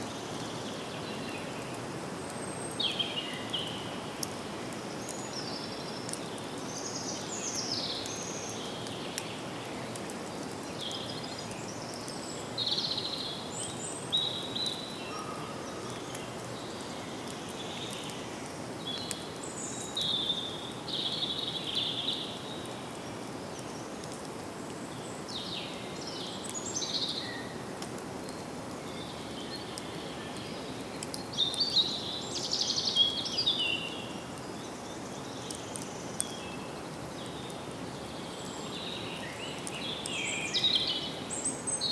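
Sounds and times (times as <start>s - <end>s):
songbirds chirping: 0.0s - 41.9s
steady background hiss: 0.0s - 41.9s.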